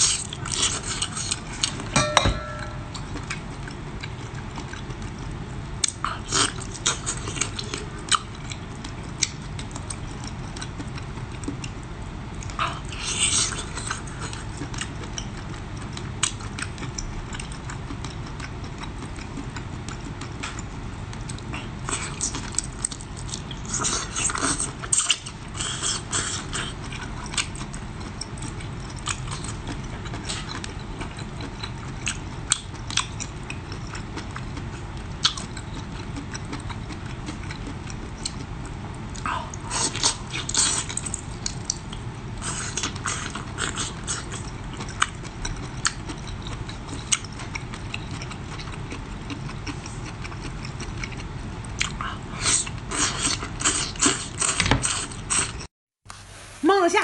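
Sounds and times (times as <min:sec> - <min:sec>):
steady low hum: 0:00.0 - 0:57.0
chewing and mouth smacking: 0:02.7 - 0:55.7.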